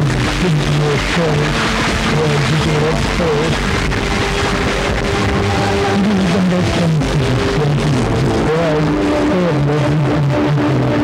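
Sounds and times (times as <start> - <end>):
loud rock music with guitar: 0.0 - 11.0.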